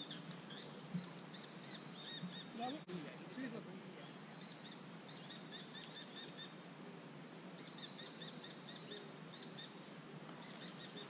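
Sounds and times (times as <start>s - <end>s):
low outdoor background hiss: 0.0s - 11.0s.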